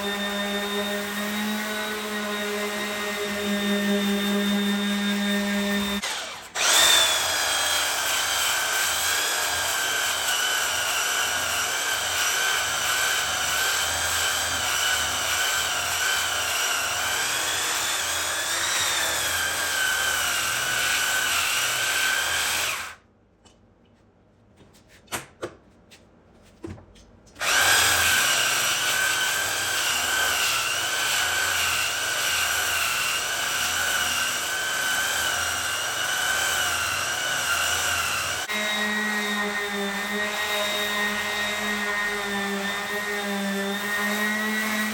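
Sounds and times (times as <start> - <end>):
electric sander whining: 0.0 - 21.1, 27.4 - 44.9.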